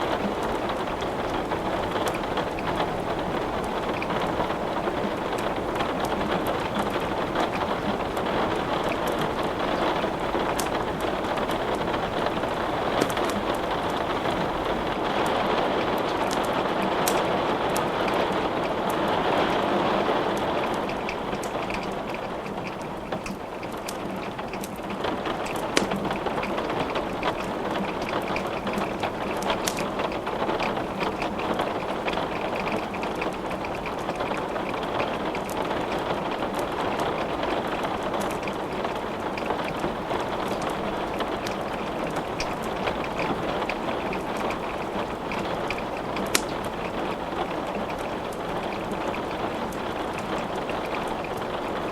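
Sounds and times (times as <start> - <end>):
sharp crackling clicks: 0.0 - 19.6, 20.4 - 51.9
steady rain falling: 0.0 - 51.9.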